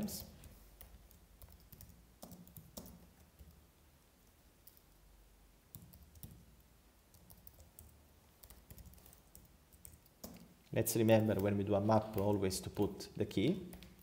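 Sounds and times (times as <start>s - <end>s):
computer keyboard typing: 0.1s - 3.6s, 4.2s - 5.0s, 5.7s - 12.7s, 13.6s - 14.0s.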